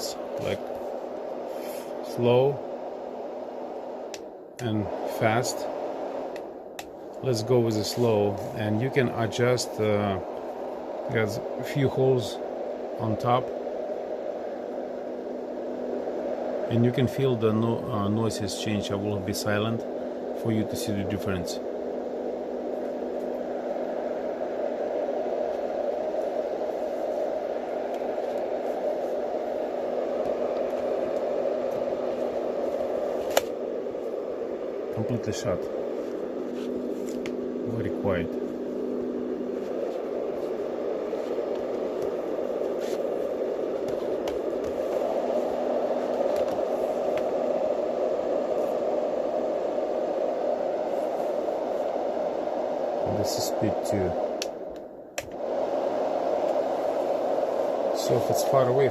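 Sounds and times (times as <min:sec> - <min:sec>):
white noise machine whoosh: 0:00.0 - 0:58.9.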